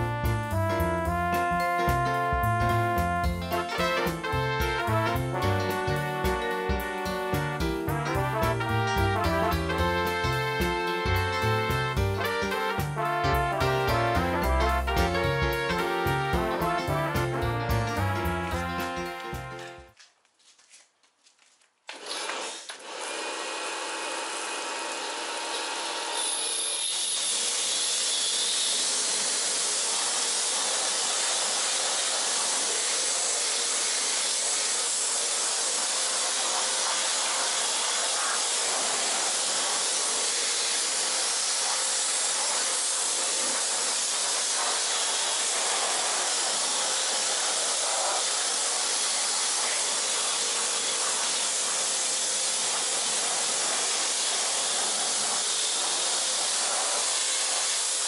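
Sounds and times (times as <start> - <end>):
pressure washer motor: 1.5 - 17.3, 21.9 - 58.0
water jet spraying hiss: 1.9 - 19.5, 22.2 - 58.0.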